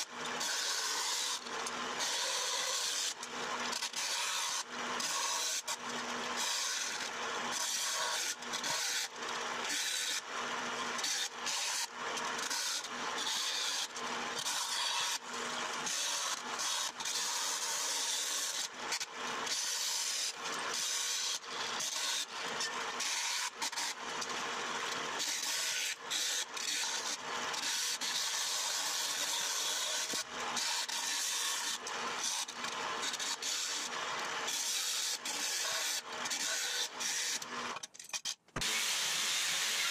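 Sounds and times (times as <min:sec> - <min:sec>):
bandsaw cutting sheet stock: 0:00.0 - 0:39.9.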